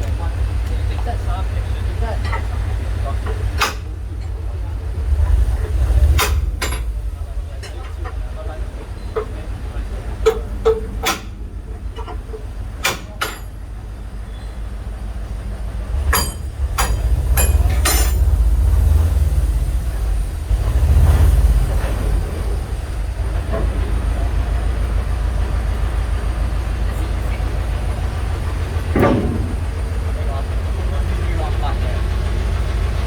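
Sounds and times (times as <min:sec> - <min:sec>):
train rumbling past: 0:00.0 - 0:12.9, 0:13.5 - 0:33.0
sharp clicks of train: 0:00.0 - 0:33.0.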